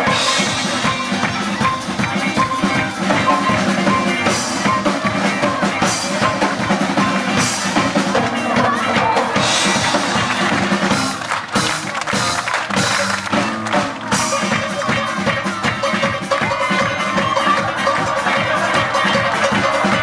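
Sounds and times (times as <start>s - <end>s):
drum kit steady beat: 0.0s - 20.0s
live band playing: 0.0s - 20.0s.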